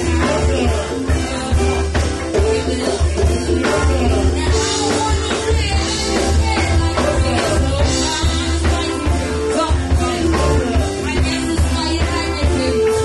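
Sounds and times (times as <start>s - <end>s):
man singing: 0.0s - 11.8s
congas: 0.0s - 13.0s
live band music: 0.0s - 13.0s.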